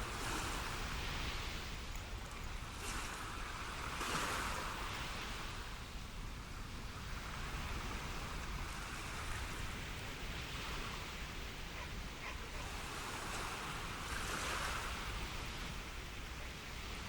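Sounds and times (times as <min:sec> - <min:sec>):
waves washing in: 0:00.0 - 0:17.0.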